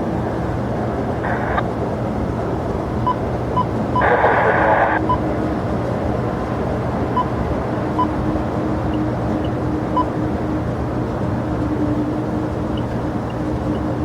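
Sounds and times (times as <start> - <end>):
jet airliner engines: 0.0 - 14.0.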